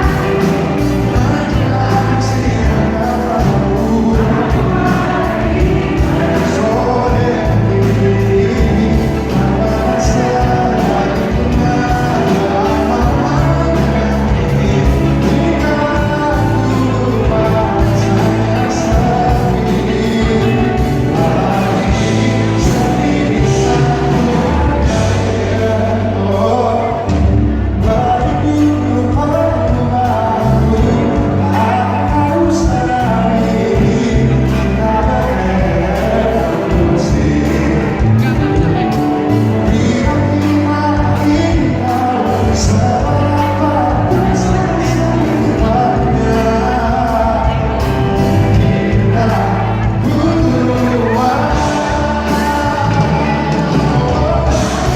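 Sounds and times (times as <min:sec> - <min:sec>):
live pop band playing: 0:00.0 - 0:54.9
man singing: 0:00.0 - 0:54.9.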